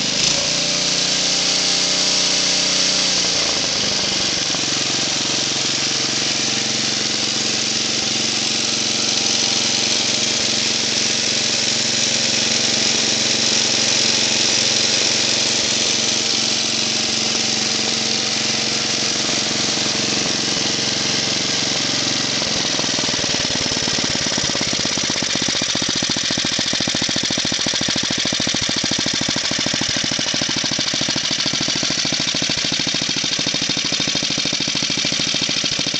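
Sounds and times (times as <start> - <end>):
snowblower engine running: 0.0 - 35.9.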